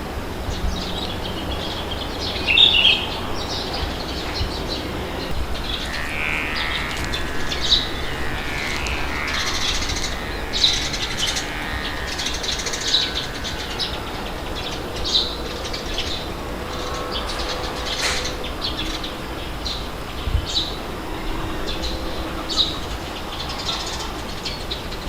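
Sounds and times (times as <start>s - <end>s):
small birds chirping: 0.0s - 25.0s
wind blowing: 0.0s - 25.0s.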